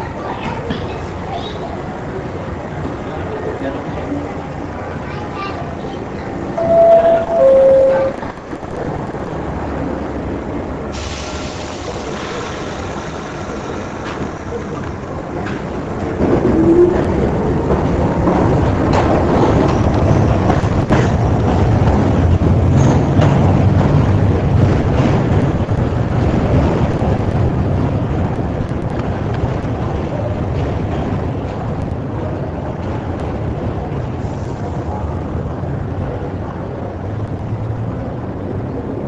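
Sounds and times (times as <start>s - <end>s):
train wheels rumbling on rails: 0.0s - 39.0s
rail clicks: 0.1s - 37.5s.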